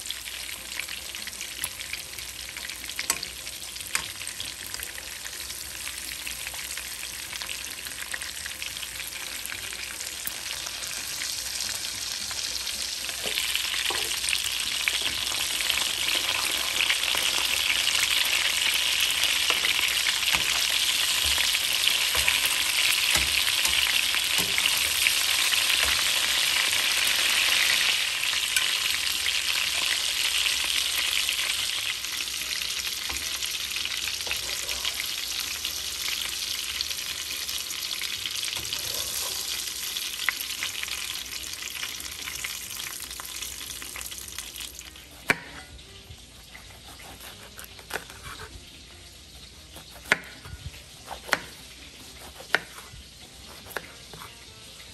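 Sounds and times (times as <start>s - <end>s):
food sizzling in hot pan: 0.0s - 54.9s.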